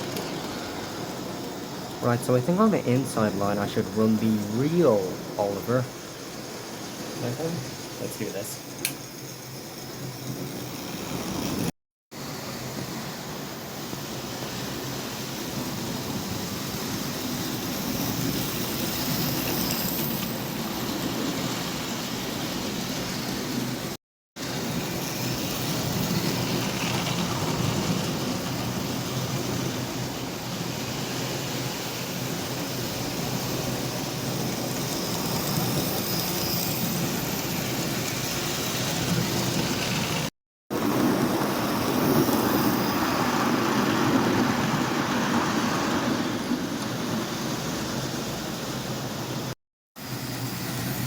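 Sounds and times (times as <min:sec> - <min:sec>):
model trains running on track: 0:00.0 - 0:51.0.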